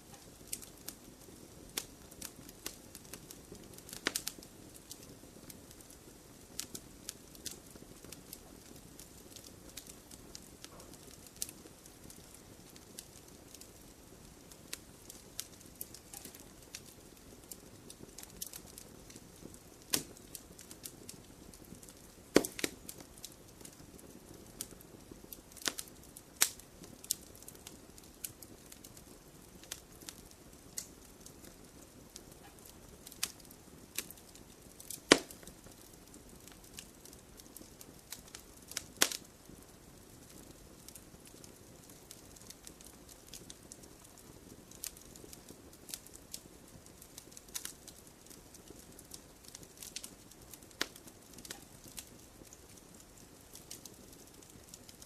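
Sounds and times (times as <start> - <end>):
campfire crackling and popping: 0.0 - 55.0
fire hissing: 0.0 - 55.0.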